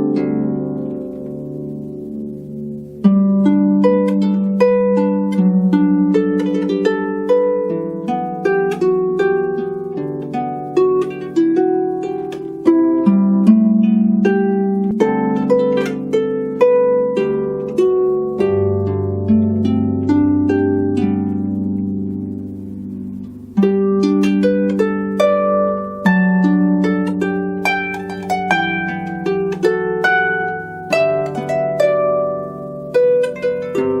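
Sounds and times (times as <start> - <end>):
solo harp melody: 0.0 - 34.0.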